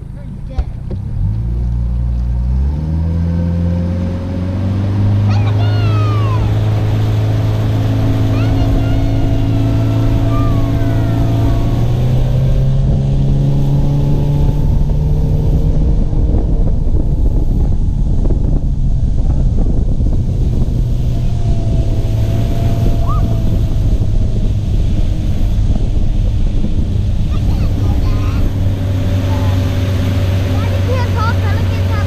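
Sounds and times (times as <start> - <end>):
outboard motor running: 0.0 - 32.0
wind on microphone: 0.8 - 32.0.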